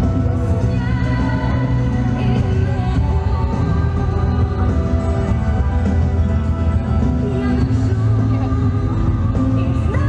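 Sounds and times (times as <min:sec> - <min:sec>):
loud music with deep bass: 0:00.0 - 0:10.0.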